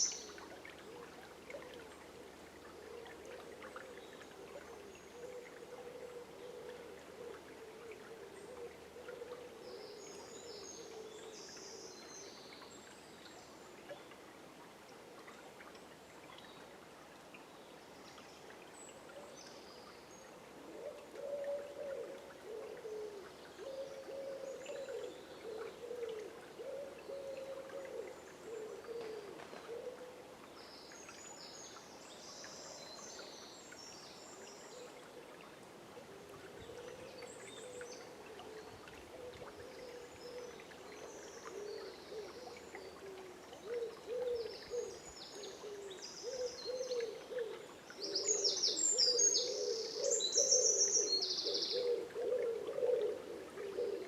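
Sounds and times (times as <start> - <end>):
songbirds chirping: 0.0 - 14.4, 15.3 - 54.0
faint river flowing: 0.0 - 54.0.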